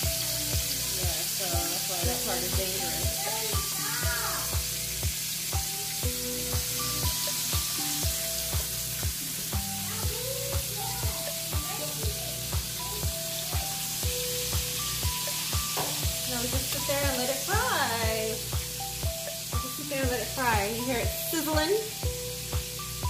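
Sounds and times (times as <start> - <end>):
background music with steady beat: 0.0 - 23.0
fish sizzling in hot oil: 0.0 - 23.0.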